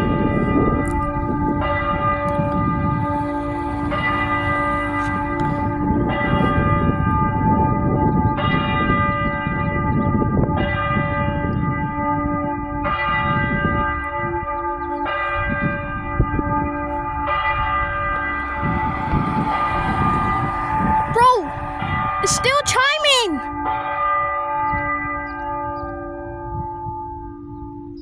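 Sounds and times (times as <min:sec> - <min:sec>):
church bell tolling: 0:00.0 - 0:28.0.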